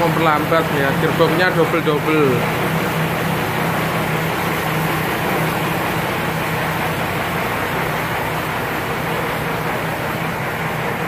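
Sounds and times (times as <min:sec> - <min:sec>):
winch diesel engine running: 0:00.0 - 0:11.0.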